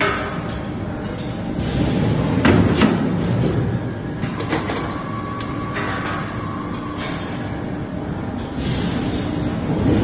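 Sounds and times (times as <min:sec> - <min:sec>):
steady machine whine: 0:00.6 - 0:10.0.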